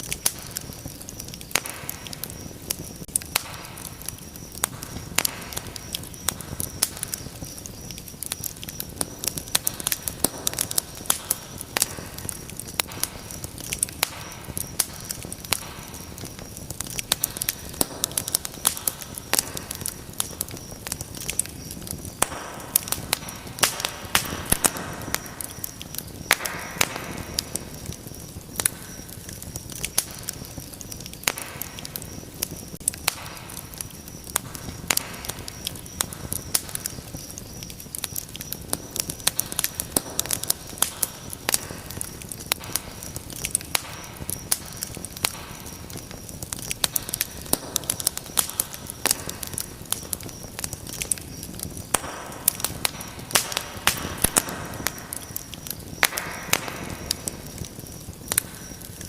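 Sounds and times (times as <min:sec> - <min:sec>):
fire popping and snapping: 0:00.0 - 0:59.0
flames rushing: 0:00.0 - 0:59.0.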